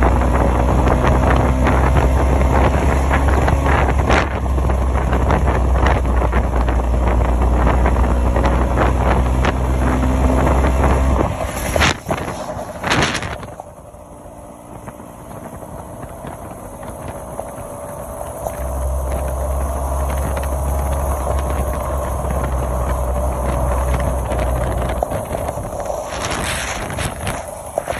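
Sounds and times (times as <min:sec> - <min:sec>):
scooter engine running: 0:00.0 - 0:27.9
wind buffeting microphone: 0:00.0 - 0:27.9.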